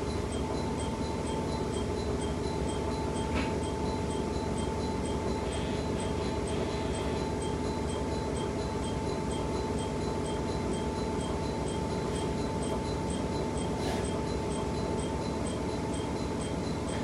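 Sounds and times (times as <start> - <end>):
diesel railcar running hum: 0.0 - 17.0.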